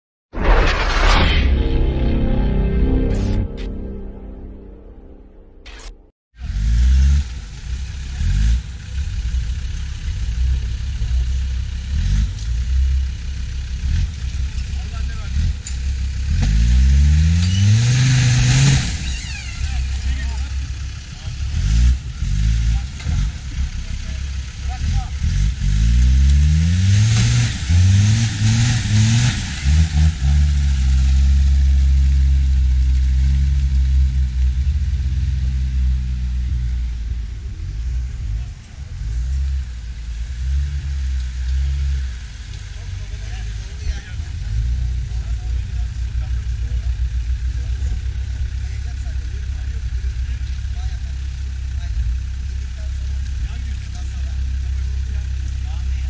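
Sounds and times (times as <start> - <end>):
diesel engine revving: 6.4 - 56.0.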